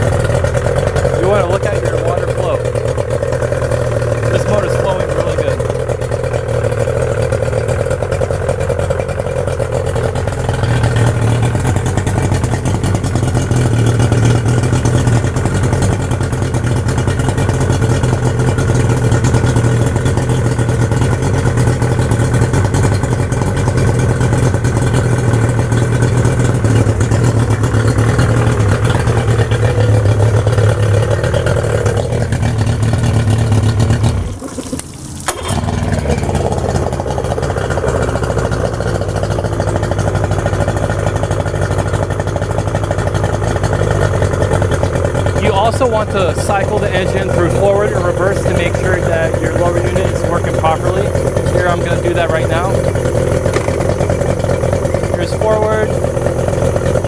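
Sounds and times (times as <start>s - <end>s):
outboard engine running: 0.0s - 57.0s.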